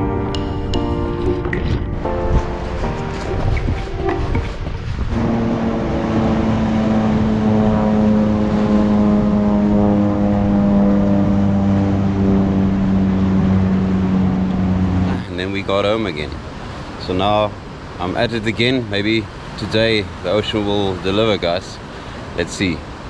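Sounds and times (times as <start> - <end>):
plane engine drone: 0.0 - 23.0.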